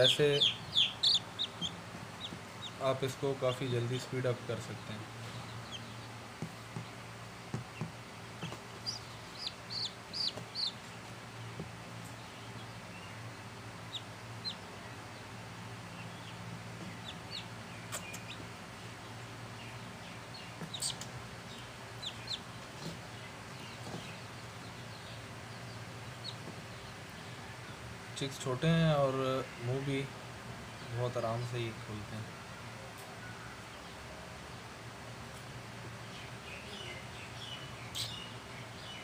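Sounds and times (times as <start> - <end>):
chicks peeping: 0.0 - 30.1, 35.3 - 39.0
steady low hum: 0.0 - 32.7.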